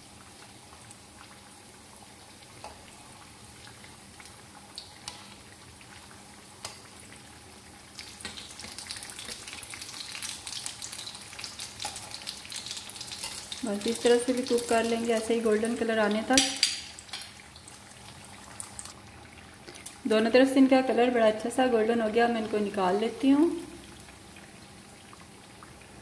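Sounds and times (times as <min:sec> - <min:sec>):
patties sizzling in hot oil: 0:00.0 - 0:26.0.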